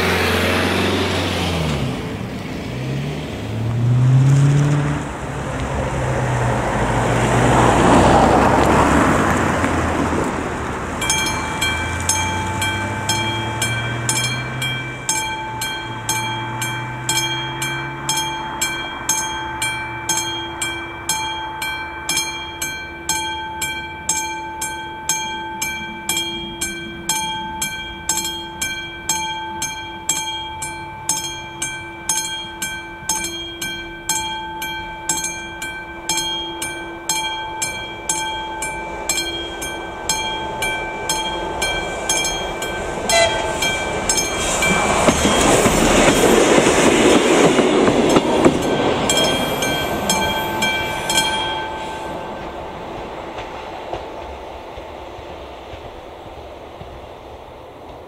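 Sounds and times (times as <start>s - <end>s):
railcar running noise: 3.5s - 58.0s
level crossing warning bell: 6.1s - 53.9s.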